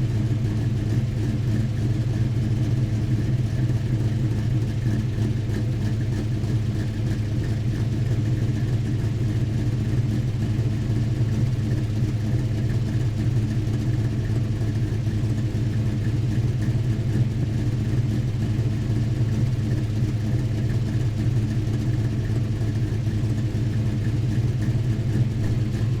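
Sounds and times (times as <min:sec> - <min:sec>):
car exhaust idling rumble: 0:00.0 - 0:26.0.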